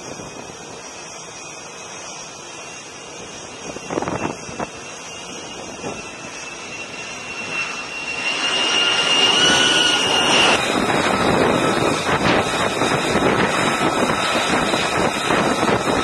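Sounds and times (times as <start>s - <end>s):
jet engine whine: 0.0s - 16.0s
wind noise burst: 3.0s - 16.0s.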